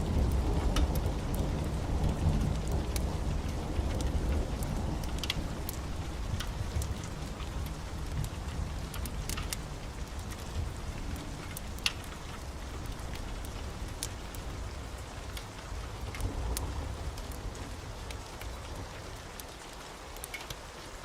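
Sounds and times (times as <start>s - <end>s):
low rumble of thunder: 0.0s - 19.4s
heavy rain: 0.0s - 21.0s.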